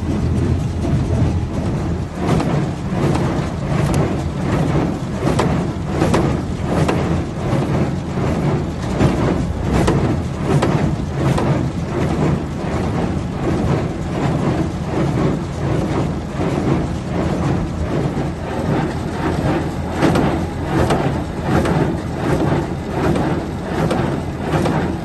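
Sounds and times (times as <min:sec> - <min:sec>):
tractor engine rumbling: 0:00.0 - 0:25.0.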